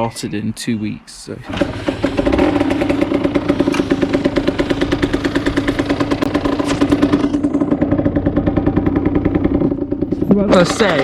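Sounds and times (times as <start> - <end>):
two-stroke engine idling: 1.4 - 11.0.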